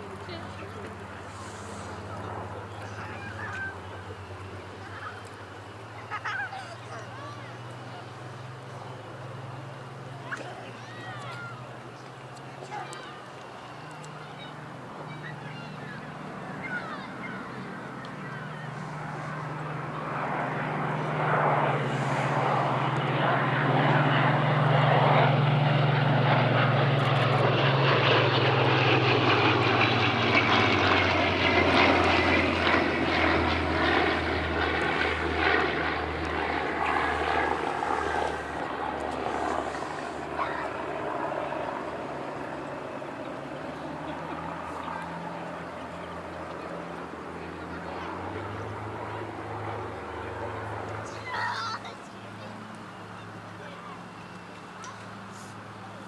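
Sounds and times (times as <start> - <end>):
propeller plane flying past: 0.0 - 56.0.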